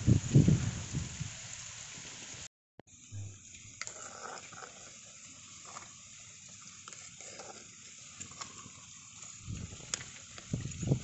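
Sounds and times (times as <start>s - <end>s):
noodles simmering with hiss: 0.0s - 11.0s.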